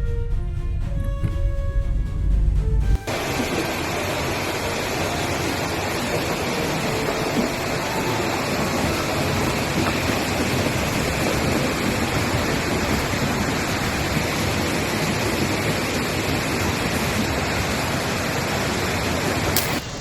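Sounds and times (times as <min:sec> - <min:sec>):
rushing torrent of water: 0:03.0 - 0:20.0.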